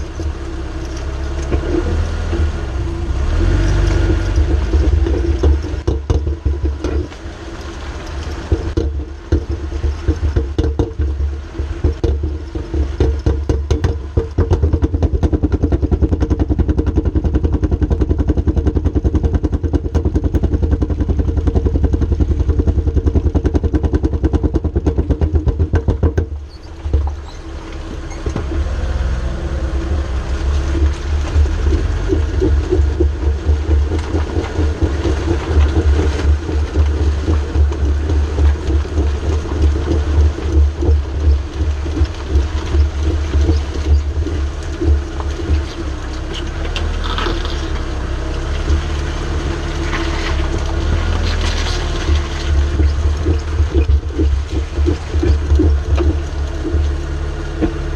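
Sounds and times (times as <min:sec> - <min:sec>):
vehicle drone with rapid pulsing: 0:00.0 - 0:57.9.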